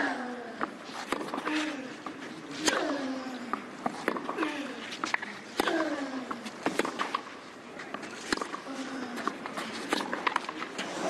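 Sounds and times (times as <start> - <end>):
tennis ball hit by racquets: 0.6 - 7.3, 7.9 - 10.9.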